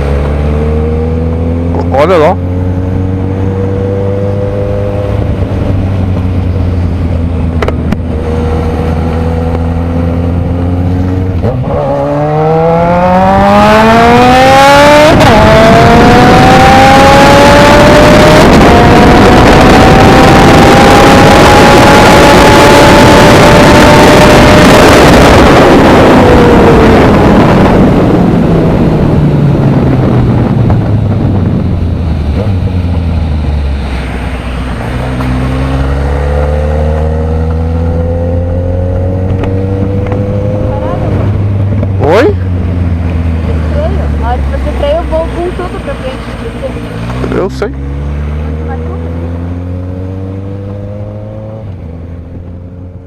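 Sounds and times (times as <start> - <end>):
engine accelerating hard: 0.0 - 53.0.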